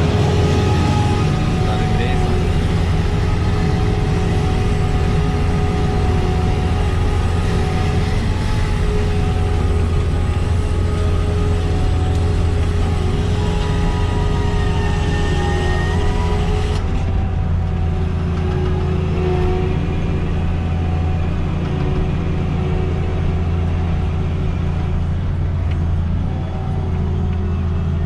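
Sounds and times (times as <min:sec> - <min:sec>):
diesel engine low drone: 0:00.0 - 0:28.0.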